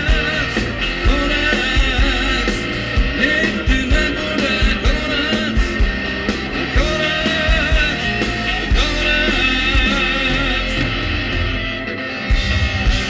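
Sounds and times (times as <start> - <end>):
bass: 0.0 - 13.0
electric guitar: 0.0 - 13.0.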